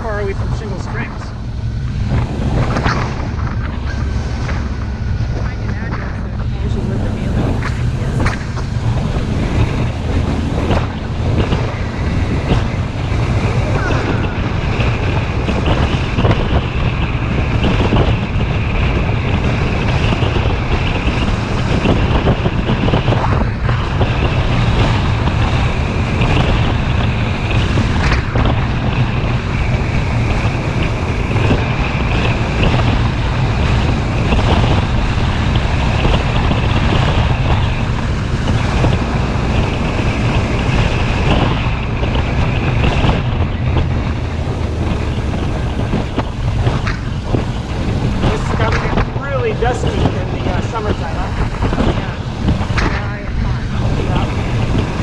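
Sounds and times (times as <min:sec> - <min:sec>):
motorcycle running: 0:00.0 - 0:55.0
wind noise on microphone: 0:00.0 - 0:55.0.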